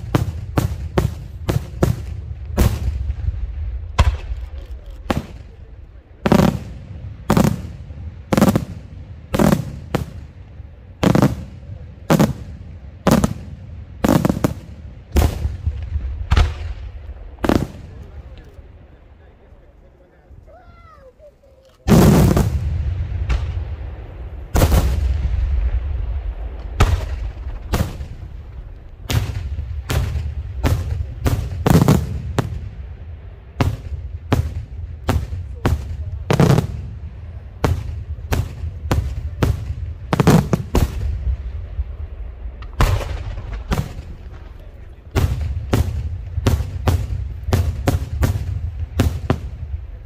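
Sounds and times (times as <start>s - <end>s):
fireworks bursting with echoing bangs: 0.0s - 19.0s, 21.8s - 50.0s.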